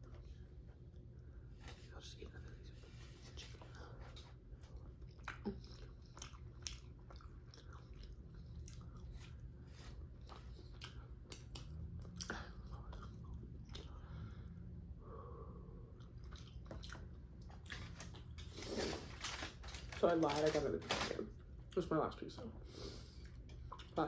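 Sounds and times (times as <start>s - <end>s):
chewing food: 0.0s - 14.6s, 15.8s - 21.9s, 23.0s - 24.0s.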